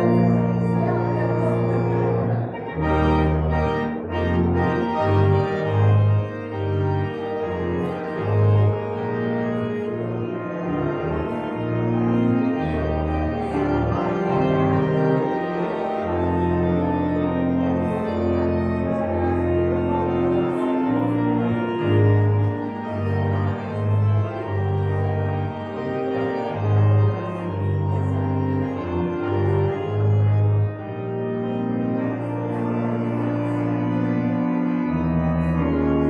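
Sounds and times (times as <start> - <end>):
church organ chords: 0.0 - 36.0.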